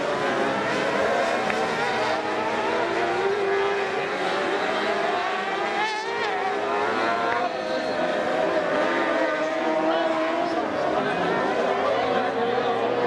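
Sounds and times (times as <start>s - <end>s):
buggy engines racing: 0.0s - 13.0s.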